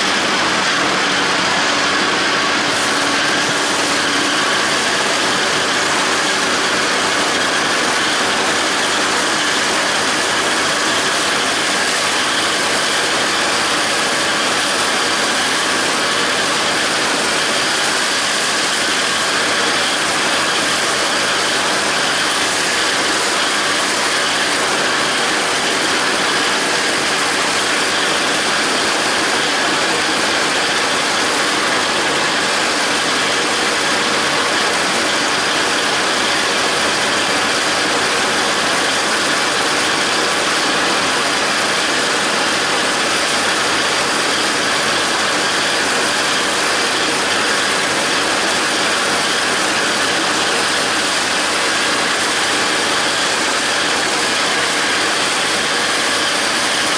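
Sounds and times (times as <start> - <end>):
disc mower cutting grass: 0.0 - 56.9
tractor diesel engine under load: 0.0 - 56.9.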